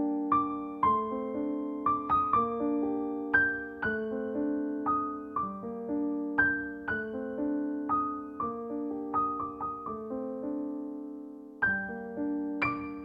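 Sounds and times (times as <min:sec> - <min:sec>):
solo piano playing slow piece: 0:00.0 - 0:13.0.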